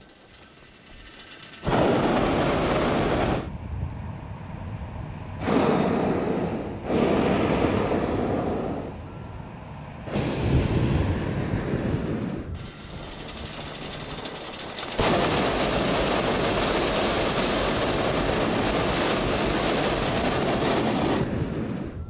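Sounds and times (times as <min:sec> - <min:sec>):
propane burner hissing blasts: 0:00.0 - 0:09.1, 0:10.0 - 0:22.0.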